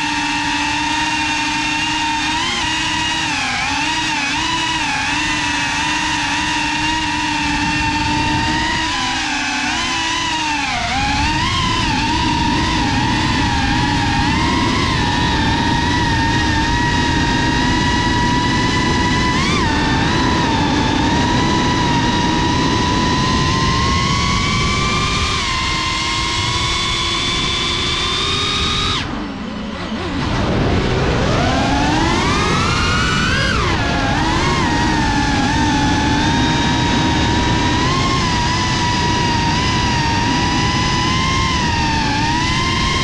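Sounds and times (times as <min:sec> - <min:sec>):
drone motors whining: 0:00.0 - 0:43.0
low wind rumble: 0:00.0 - 0:43.0.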